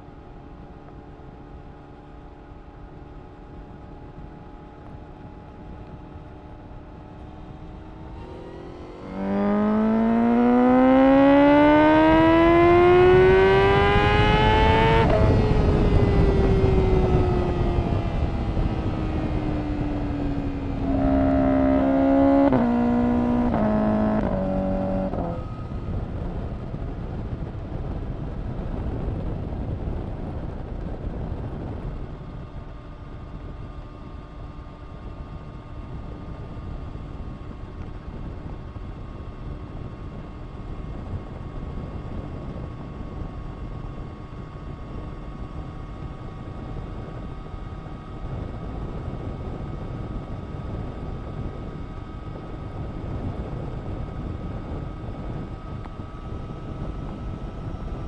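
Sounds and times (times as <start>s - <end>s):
motorcycle engine revving: 0.5s - 58.0s.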